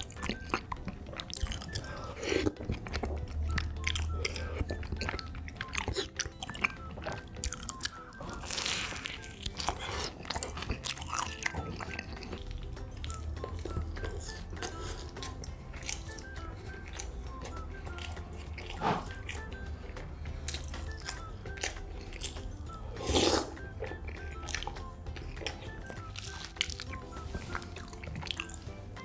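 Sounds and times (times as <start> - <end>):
crunchy bites and chewing: 0.0 - 29.0
light background music: 0.0 - 29.0
slurping sauce: 0.1 - 12.8, 13.7 - 28.8.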